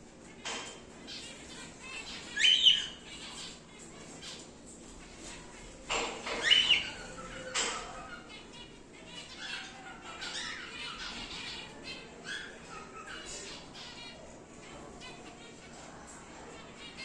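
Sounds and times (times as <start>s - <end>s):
birds chattering softly: 0.0s - 17.0s
cockatiels squawking: 1.0s - 15.8s.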